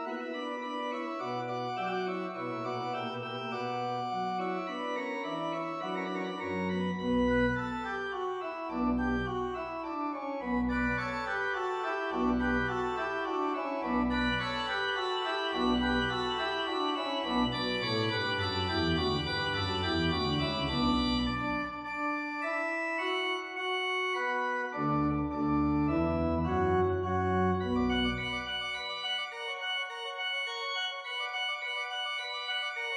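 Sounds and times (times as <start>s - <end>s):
organ music: 0.0s - 32.9s.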